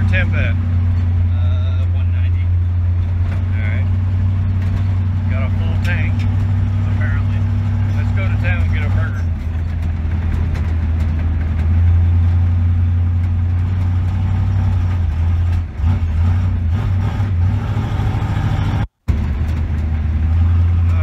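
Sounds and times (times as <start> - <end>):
car engine drone: 0.0 - 21.0
road noise: 0.0 - 21.0.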